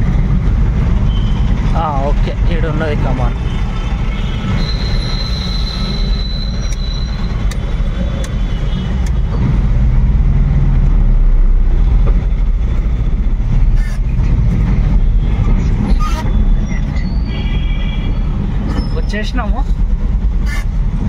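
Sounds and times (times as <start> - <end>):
delivery vehicle engine rumble: 0.0 - 21.0.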